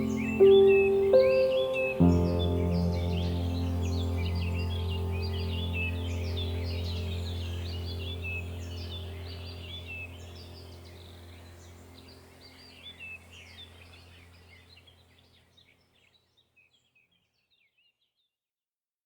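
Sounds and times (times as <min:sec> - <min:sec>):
low steady hum: 0:00.0 - 0:15.5
birds chirping and trilling: 0:00.0 - 0:18.2.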